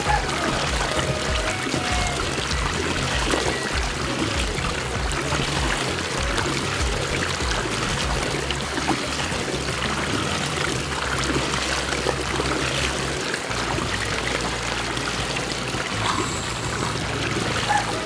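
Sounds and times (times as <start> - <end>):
water rushing down drain vortex: 0.0 - 18.0.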